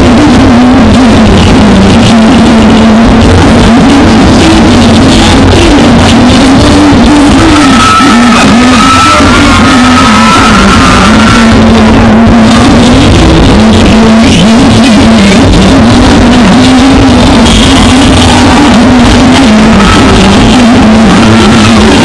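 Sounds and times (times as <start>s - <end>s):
loud music with wavering melody: 0.0s - 22.0s.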